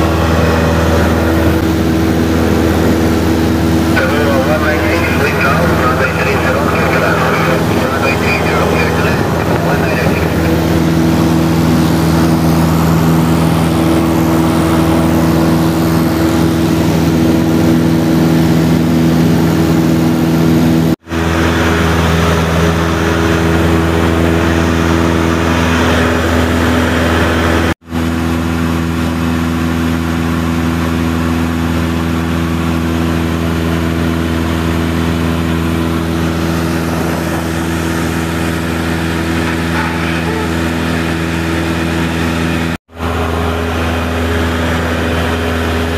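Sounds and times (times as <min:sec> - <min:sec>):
light airplane engine droning: 0:00.0 - 0:45.9.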